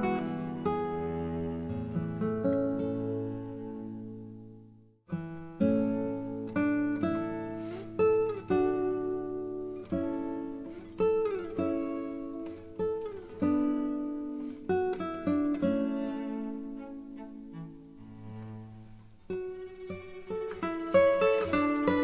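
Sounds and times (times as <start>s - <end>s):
acoustic guitar melody: 0.0s - 22.0s.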